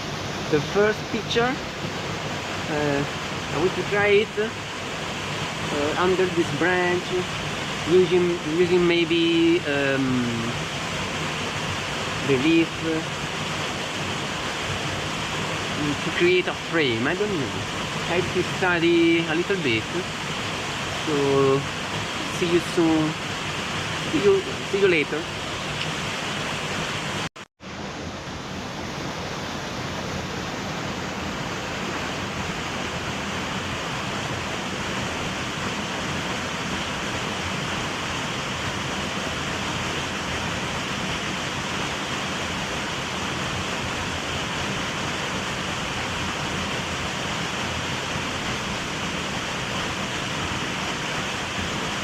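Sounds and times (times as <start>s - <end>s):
small waterfall rushing: 0.0s - 52.0s.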